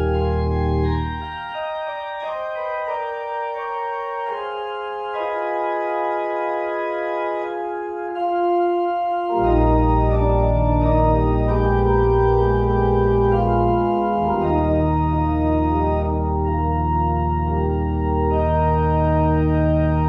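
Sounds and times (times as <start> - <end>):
church organ chords: 0.0 - 20.0
deep organ bass pedal notes: 0.0 - 20.0.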